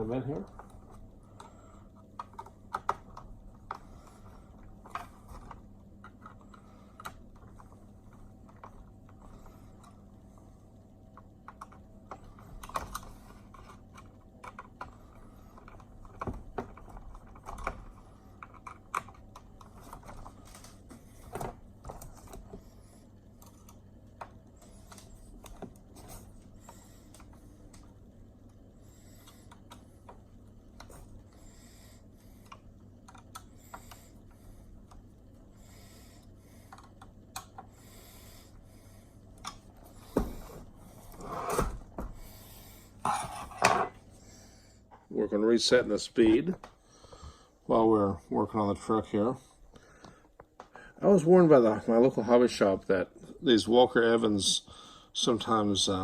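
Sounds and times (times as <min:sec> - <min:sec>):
faint low hum: 0:00.0 - 0:56.0.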